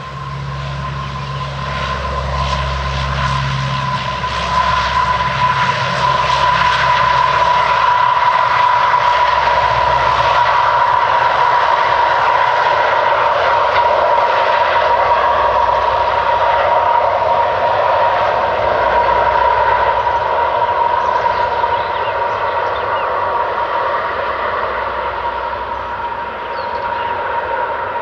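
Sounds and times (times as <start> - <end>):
high-pitched whine: 0.0 - 28.0
turboprop engines running: 0.0 - 28.0.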